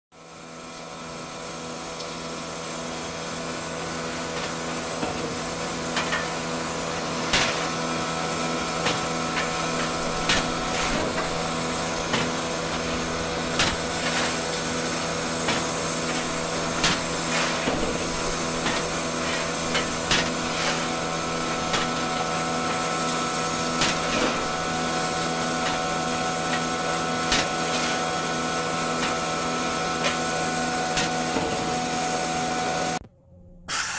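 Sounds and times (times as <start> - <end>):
electric motor hum and whirr: 0.2 - 33.9.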